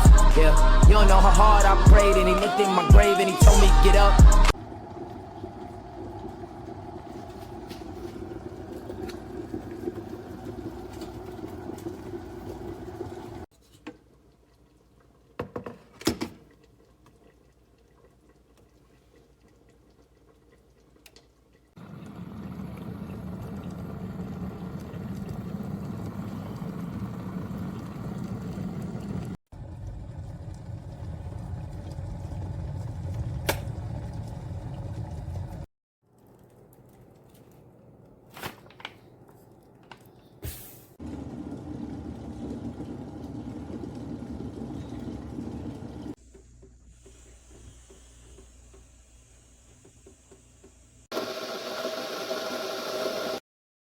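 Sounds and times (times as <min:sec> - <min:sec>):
kettle heating water: 0:04.5 - 0:38.1, 0:38.8 - 0:53.4.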